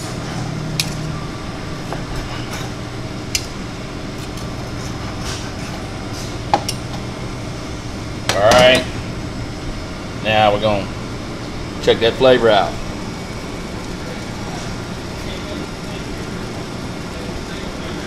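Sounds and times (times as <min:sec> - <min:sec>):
kitchen equipment humming: 0:00.0 - 0:18.0.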